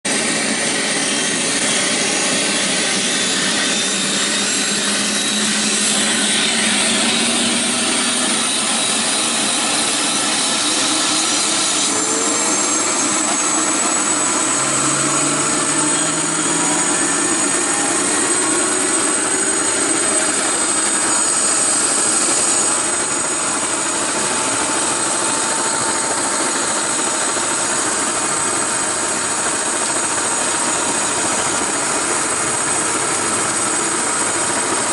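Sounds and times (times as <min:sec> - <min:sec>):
helicopter turbine and rotor: 0:00.1 - 0:34.9.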